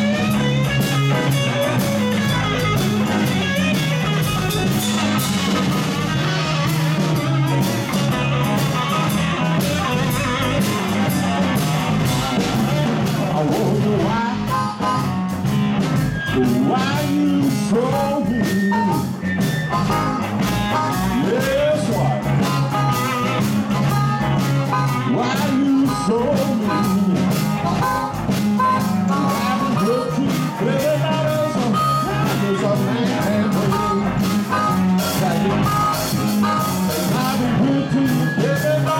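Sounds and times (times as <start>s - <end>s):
amplified harmonica wailing: 0.0s - 38.9s
blues band playing: 0.0s - 38.9s.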